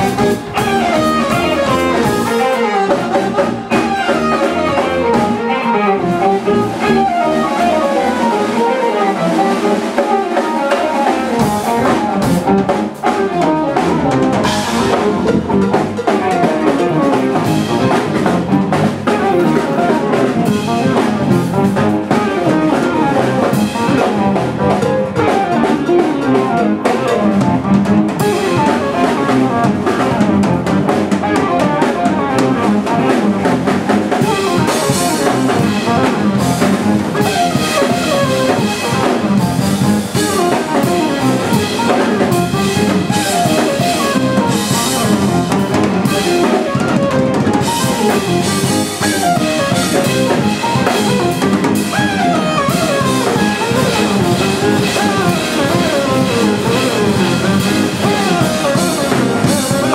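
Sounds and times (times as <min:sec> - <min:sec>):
rock band playing loud: 0:00.0 - 0:59.9.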